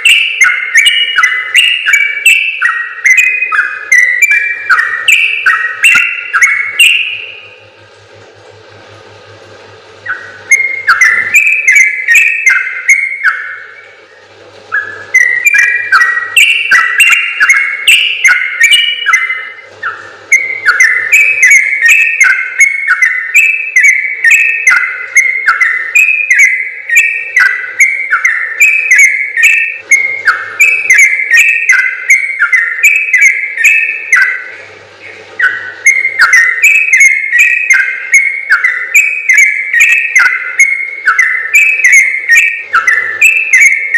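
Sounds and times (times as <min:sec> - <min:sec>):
bird singing bubbly chattering notes: 0:00.0 - 0:43.9.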